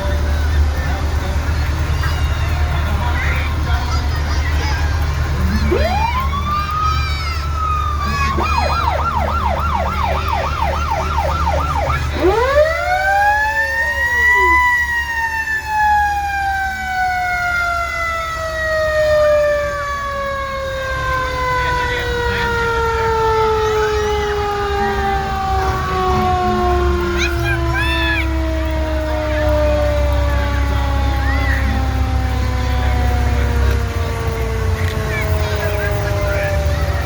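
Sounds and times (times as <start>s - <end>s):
fire engine siren wailing: 0.0s - 37.0s
truck engine rumble: 0.0s - 37.0s.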